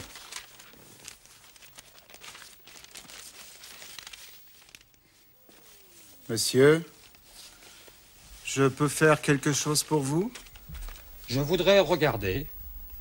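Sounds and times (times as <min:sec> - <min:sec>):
newspaper rustling: 0:00.0 - 0:11.8.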